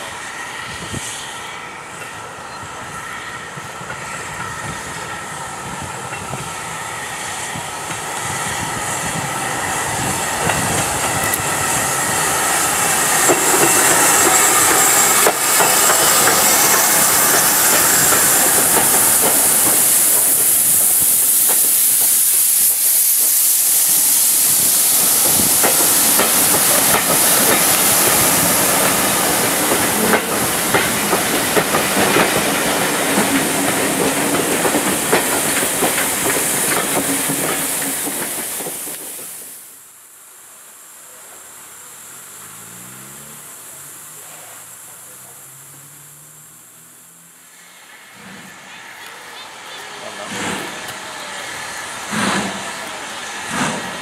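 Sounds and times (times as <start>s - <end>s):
steam hissing: 0.0s - 54.0s
steam locomotive passing: 0.0s - 54.0s.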